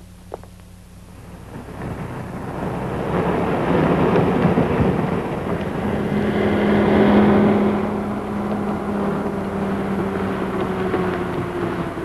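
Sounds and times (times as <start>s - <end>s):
steady low hum: 0.0s - 12.0s
ambulance engine and road noise: 0.9s - 12.0s.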